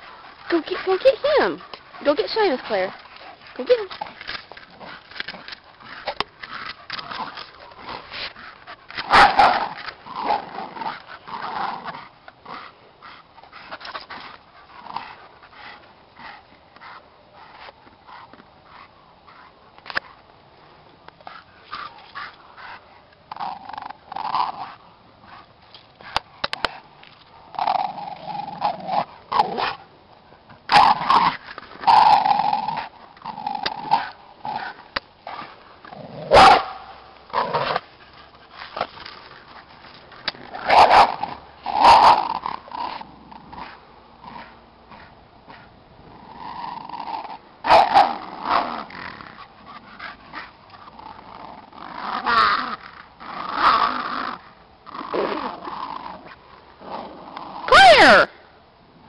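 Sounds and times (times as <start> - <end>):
dogs growling and barking: 0.0 - 16.9, 21.3 - 29.9, 30.6 - 58.3.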